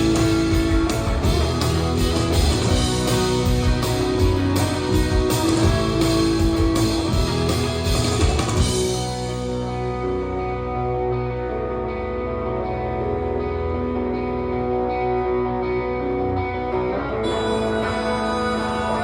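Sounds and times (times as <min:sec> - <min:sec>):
live rock band playing: 0:00.0 - 0:19.0
strummed electric guitars: 0:00.0 - 0:19.0.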